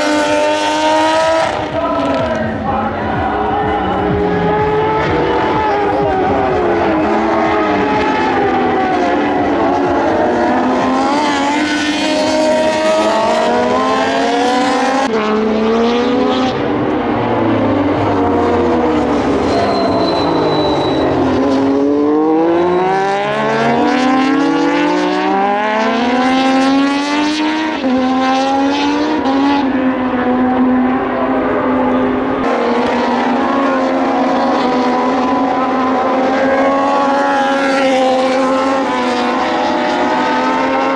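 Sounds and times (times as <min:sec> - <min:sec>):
racing motorcycles passing: 0:00.0 - 0:40.9.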